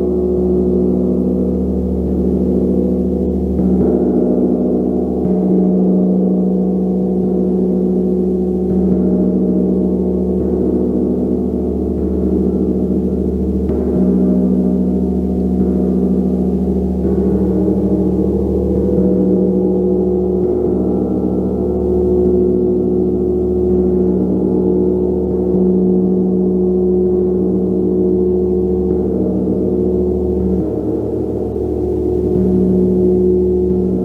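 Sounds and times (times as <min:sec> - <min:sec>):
gong played: 0:00.0 - 0:34.0.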